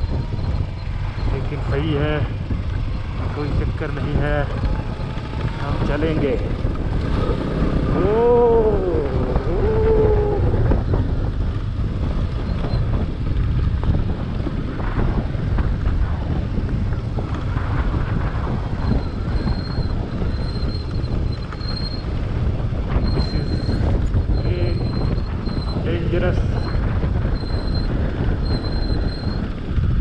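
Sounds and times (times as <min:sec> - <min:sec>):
motorcycle engine rumble: 0:00.0 - 0:30.0
wind on microphone: 0:00.0 - 0:30.0.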